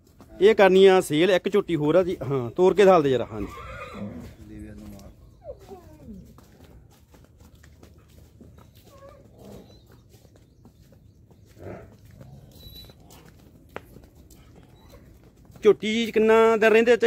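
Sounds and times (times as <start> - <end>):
hooves stepping on bricks: 0.0 - 16.9.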